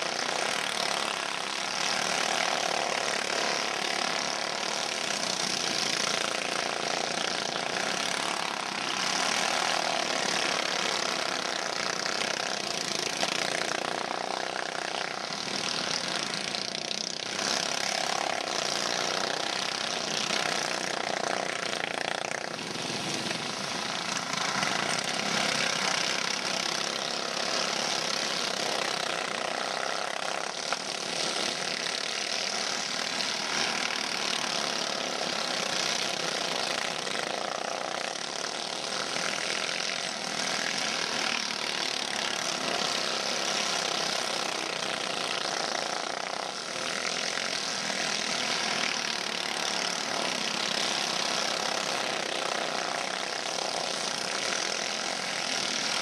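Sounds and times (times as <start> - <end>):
go-kart engines buzzing: 0.0 - 56.0.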